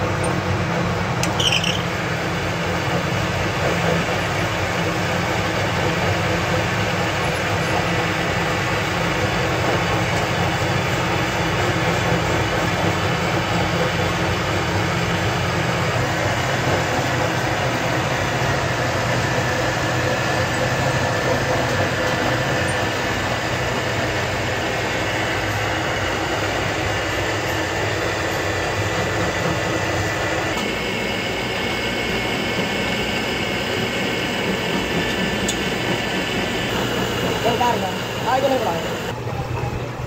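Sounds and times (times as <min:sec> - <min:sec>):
lathe and grinder droning: 0:00.0 - 0:39.9.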